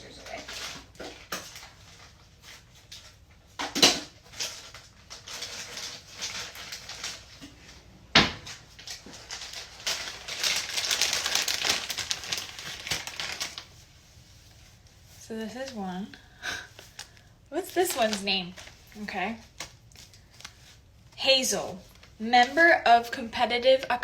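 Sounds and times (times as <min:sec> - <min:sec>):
plastic wrap crinkling: 0:00.0 - 0:24.0.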